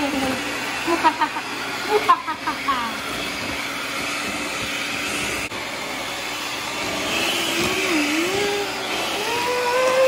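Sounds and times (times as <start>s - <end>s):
electric hand mixer whirring: 0.0s - 10.0s.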